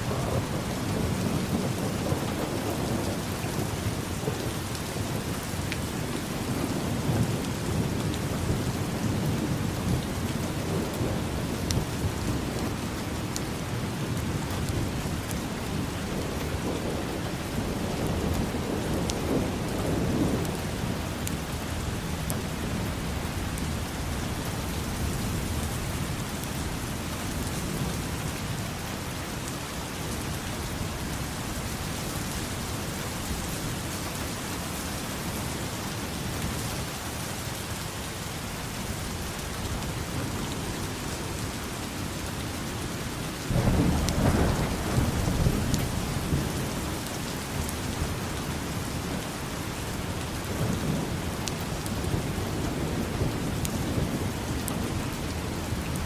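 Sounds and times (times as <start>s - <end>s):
low rumble of thunder: 0.0s - 56.0s
steady rain: 0.0s - 56.0s.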